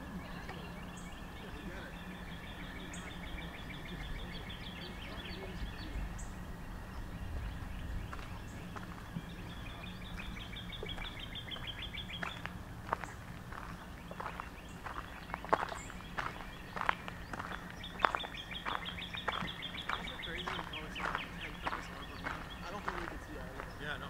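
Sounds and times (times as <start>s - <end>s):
low rumble: 0.0s - 24.0s
songbird trilling: 0.0s - 24.0s
footsteps on gravel path: 0.4s - 24.0s.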